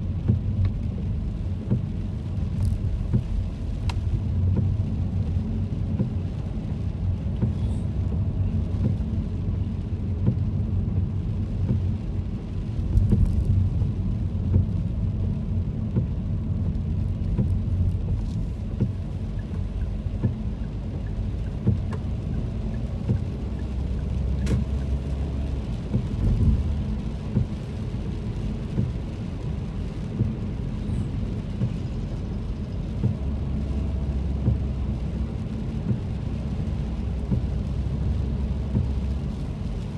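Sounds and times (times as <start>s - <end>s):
engine and tyres on wet road: 0.0s - 39.9s
rain on car: 0.0s - 39.9s.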